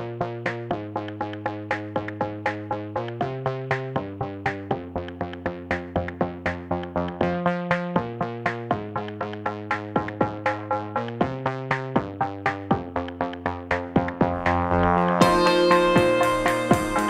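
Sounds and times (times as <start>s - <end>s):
drum-machine beat: 0.0s - 17.0s
synthesizer chords: 0.0s - 17.0s.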